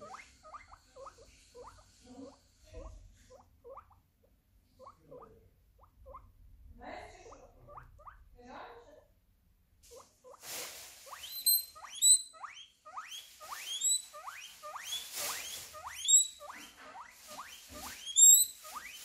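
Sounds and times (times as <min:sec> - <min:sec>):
guinea pig wheeking: 0:00.0 - 0:08.4, 0:09.9 - 0:19.0.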